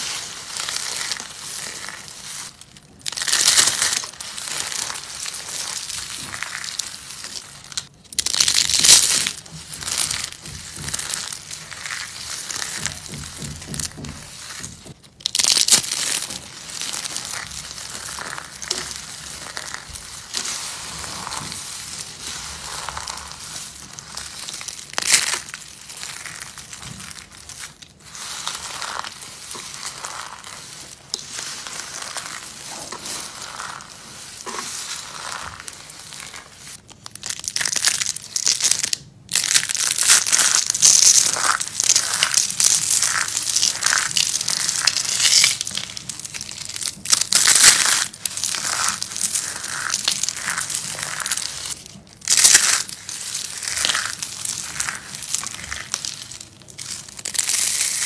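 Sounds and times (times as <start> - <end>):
soap crunching and crackling: 0.0 - 58.0.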